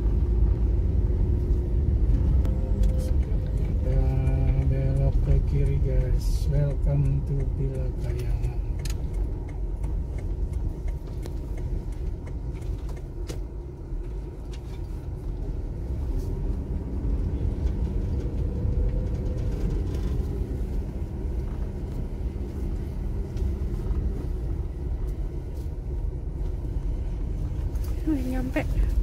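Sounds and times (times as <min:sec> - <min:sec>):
car engine and tyres rumbling: 0:00.0 - 0:29.0.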